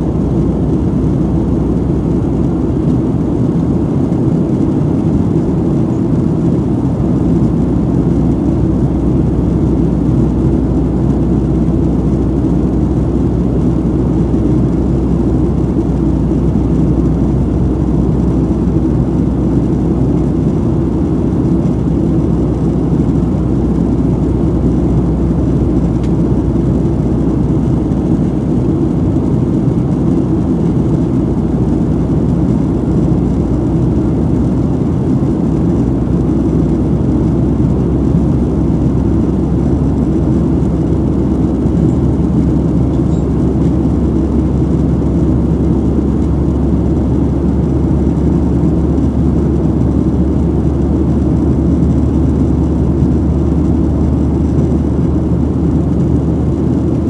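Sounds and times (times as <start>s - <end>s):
airflow rushing over fuselage: 0.0s - 57.0s
jet engine drone in cabin: 0.0s - 57.0s.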